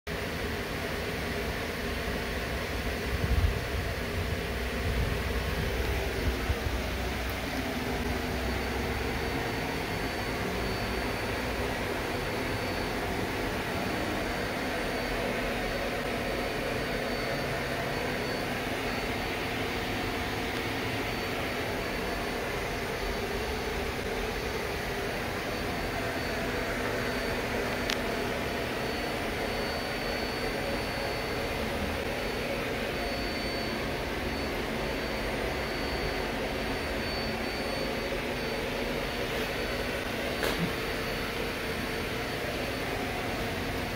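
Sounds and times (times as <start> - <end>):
mechanical hum and hiss: 0.1 - 43.9.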